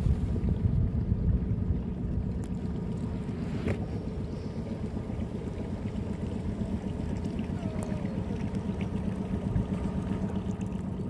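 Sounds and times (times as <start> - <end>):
outboard motor rumbling: 0.0 - 11.0
water noise: 0.0 - 11.0.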